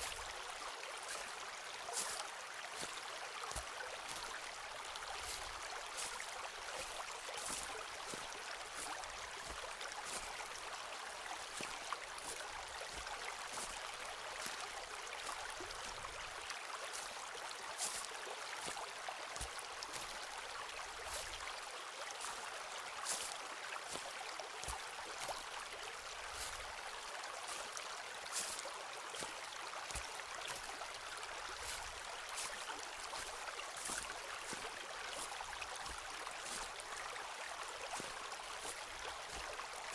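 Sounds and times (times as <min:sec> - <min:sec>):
footsteps crunching on forest floor: 0:00.0 - 0:00.4, 0:01.0 - 0:10.6, 0:11.4 - 0:16.1, 0:16.9 - 0:21.5, 0:22.1 - 0:37.0, 0:37.7 - 0:39.9
stream rushing: 0:00.0 - 0:39.9.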